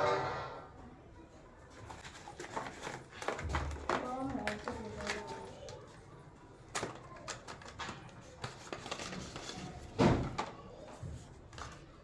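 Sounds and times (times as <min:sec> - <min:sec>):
box and packaging rustling: 0:01.6 - 0:12.0.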